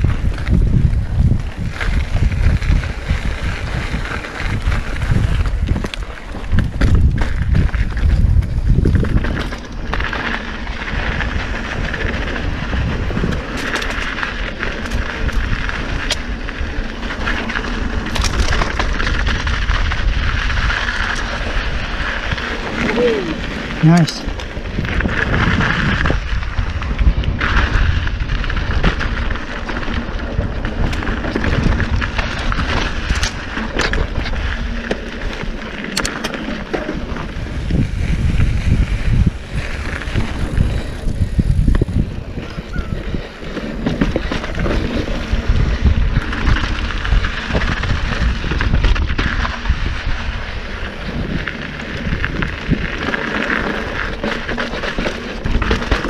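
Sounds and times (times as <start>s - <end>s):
bike knocks and clatters: 0.0s - 16.4s, 17.0s - 21.4s, 24.4s - 50.3s, 51.1s - 56.0s
tyre noise on dirt: 0.0s - 56.0s
wind buffeting microphone: 0.0s - 56.0s.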